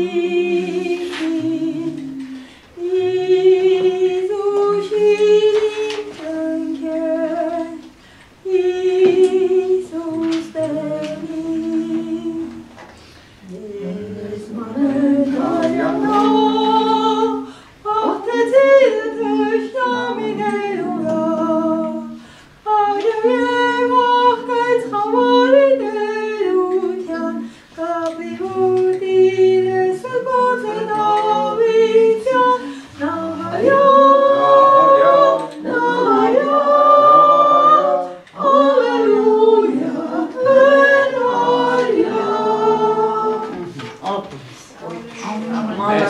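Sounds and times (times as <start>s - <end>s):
woman singing unaccompanied: 0.0s - 12.8s, 13.4s - 43.9s.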